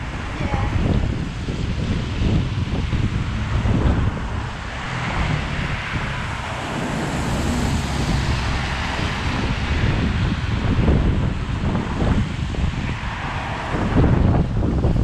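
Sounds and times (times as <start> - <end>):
road traffic on wet tarmac: 0.0 - 15.0
wind buffeting microphone: 0.0 - 15.0
vehicle passing: 0.8 - 15.0.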